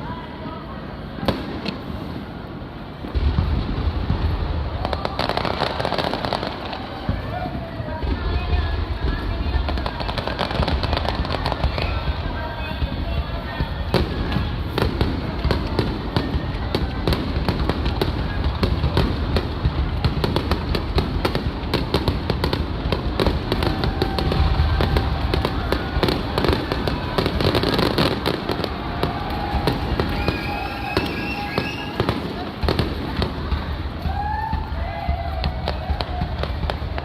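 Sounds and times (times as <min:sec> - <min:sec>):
fireworks crackling and banging: 0:00.1 - 0:37.0.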